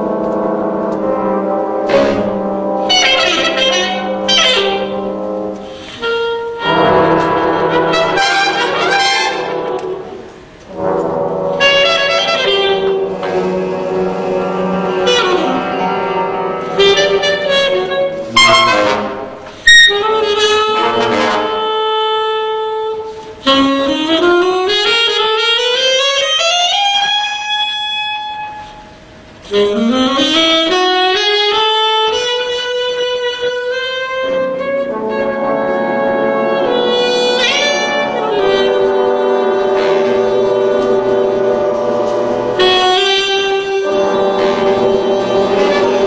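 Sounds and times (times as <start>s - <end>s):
alto saxophone solo: 0.0s - 46.0s
big band sustained chords: 0.0s - 46.0s.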